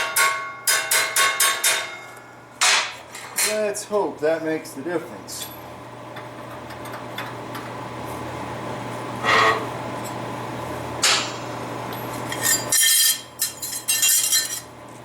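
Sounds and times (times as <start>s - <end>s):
shop machine hum: 2.0s - 15.0s.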